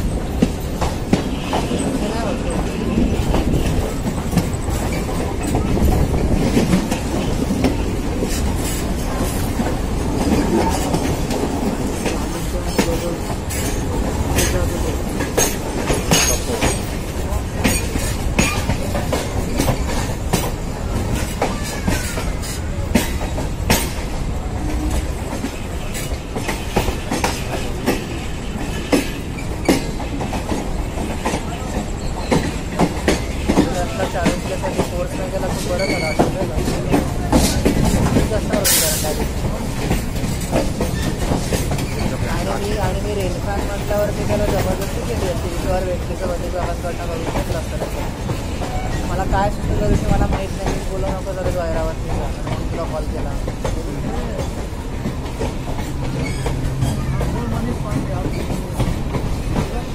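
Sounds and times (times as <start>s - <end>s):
rail clicks and clatter: 0.0s - 59.9s
trains rolling rumble: 0.0s - 59.9s.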